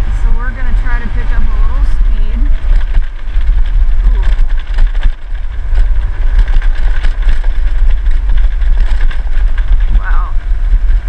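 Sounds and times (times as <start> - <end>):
high engine whine: 0.0 - 11.0
scooter low rumble: 0.0 - 11.0.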